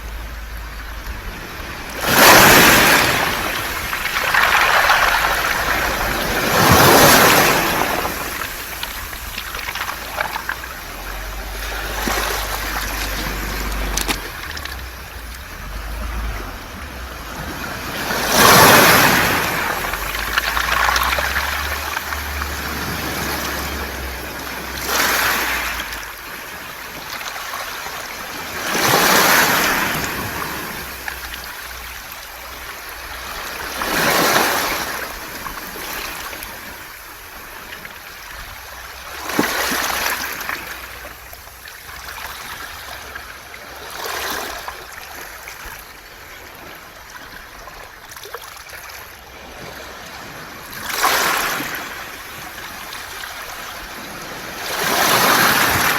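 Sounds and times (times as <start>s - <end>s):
waves hissing over pebbles: 0.0s - 47.6s, 48.2s - 55.9s.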